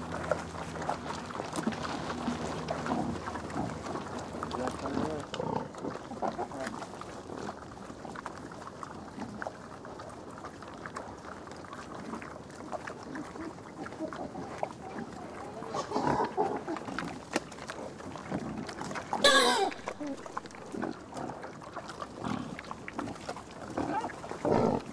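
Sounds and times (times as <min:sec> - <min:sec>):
boars crunching acorns: 0:00.0 - 0:24.9
boars snuffling: 0:00.0 - 0:24.9.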